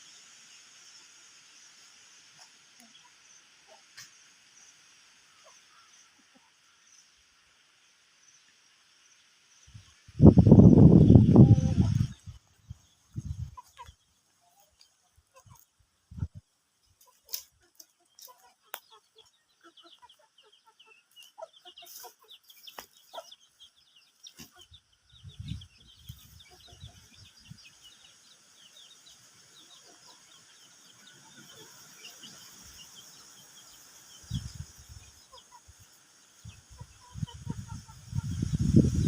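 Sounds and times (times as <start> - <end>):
chickens clucking: 2.3 - 4.1, 5.2 - 6.8, 10.3 - 39.0.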